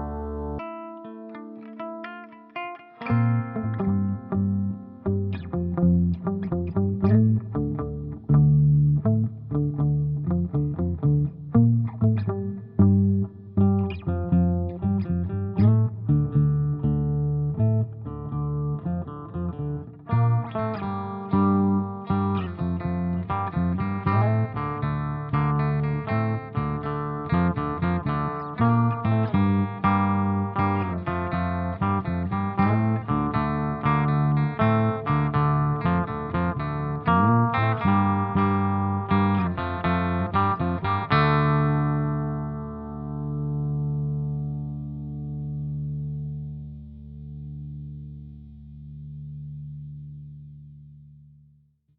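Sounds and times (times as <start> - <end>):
low bass line: 0.0 - 0.8, 3.1 - 51.7
plucked guitar notes: 0.0 - 51.3.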